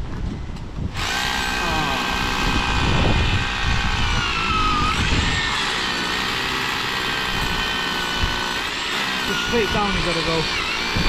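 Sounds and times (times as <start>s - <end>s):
hammer drill drilling into masonry: 0.9s - 11.0s.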